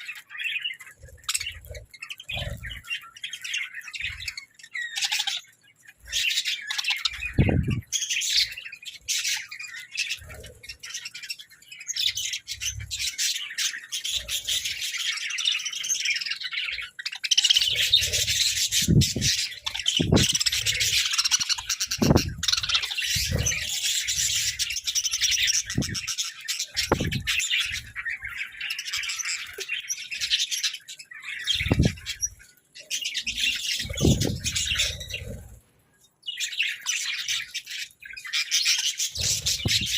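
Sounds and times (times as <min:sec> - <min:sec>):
budgerigars chirping: 0:00.0 - 0:35.6, 0:36.2 - 0:39.9.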